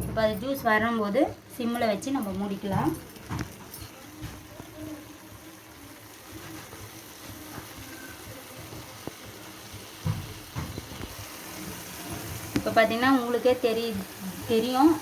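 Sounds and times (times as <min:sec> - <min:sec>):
chicken sizzling in a pan: 0:00.2 - 0:15.0.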